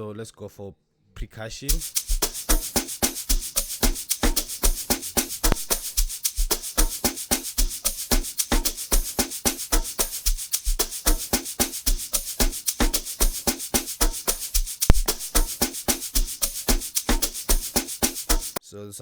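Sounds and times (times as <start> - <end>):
fast shaker strokes: 1.7 - 18.6.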